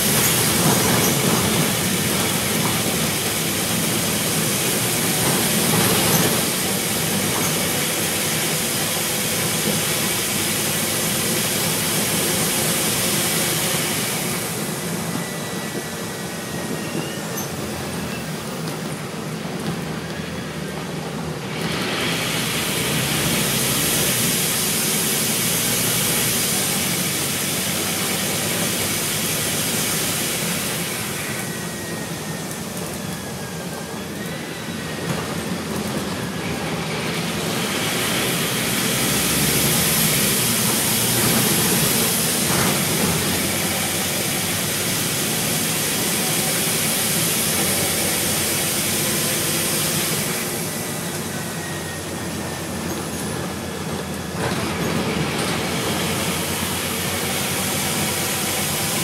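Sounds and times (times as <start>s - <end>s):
bus diesel engine running: 0.0s - 59.0s
road and tyre noise: 0.0s - 59.0s.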